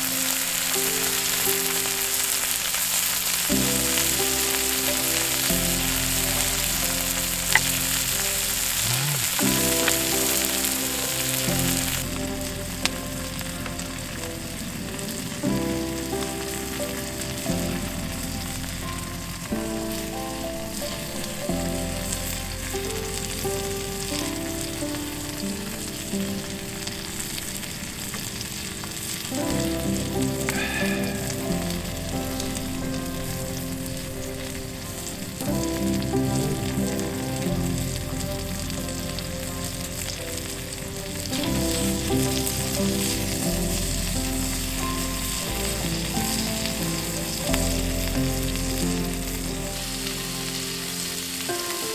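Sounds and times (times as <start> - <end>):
background music with sustained chords: 0.0 - 51.9
food sizzling in a pan: 0.0 - 51.9.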